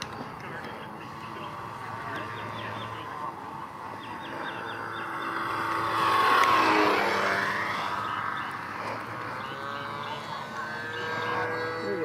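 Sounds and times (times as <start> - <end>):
model airplane engine flyby: 0.0 - 12.0.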